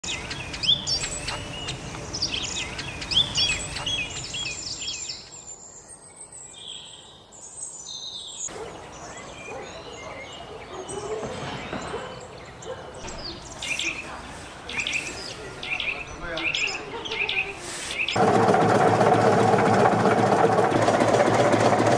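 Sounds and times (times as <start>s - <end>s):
songbirds chirping: 0.0s - 18.2s
quiet outdoor ambience: 0.0s - 19.8s.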